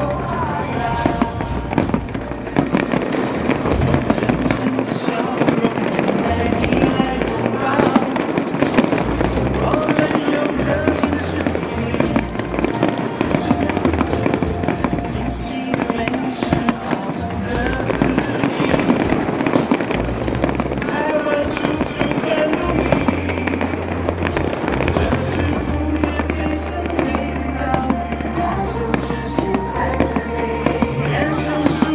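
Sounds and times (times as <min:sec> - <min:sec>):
fireworks bursting and crackling: 0:00.0 - 0:31.9
loud show music: 0:00.0 - 0:31.9.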